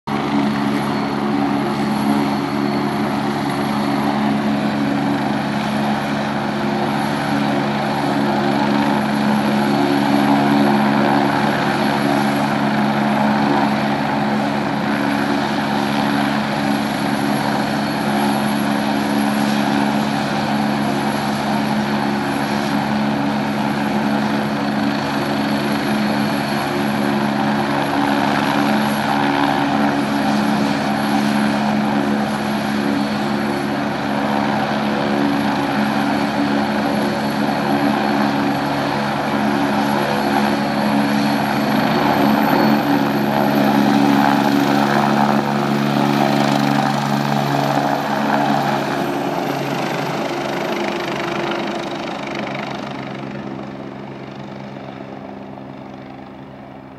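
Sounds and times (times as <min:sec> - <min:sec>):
helicopter rotors droning: 0:00.0 - 0:56.9.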